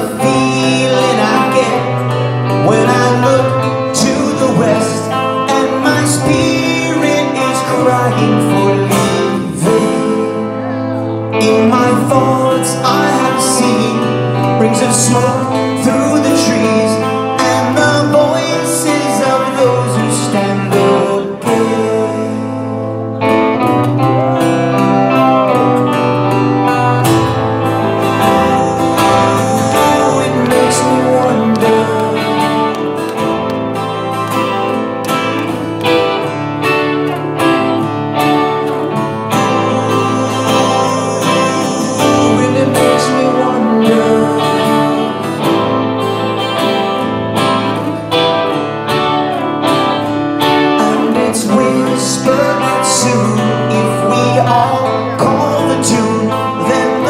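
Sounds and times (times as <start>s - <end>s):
man singing: 0.0s - 47.1s, 50.4s - 57.0s
rock band playing: 0.0s - 57.0s.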